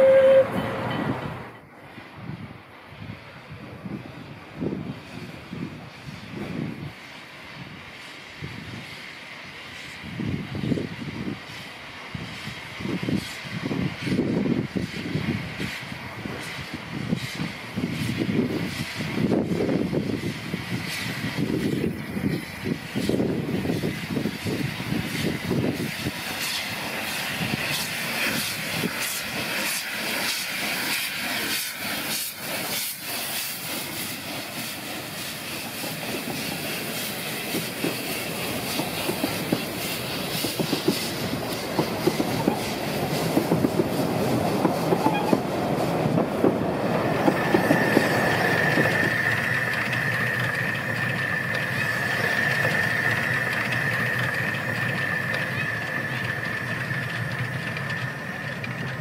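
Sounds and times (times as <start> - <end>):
steam locomotive exhaust beats: 0.0 - 59.0
hissing steam: 1.2 - 59.0
coaches clacking over rail joints: 9.2 - 59.0.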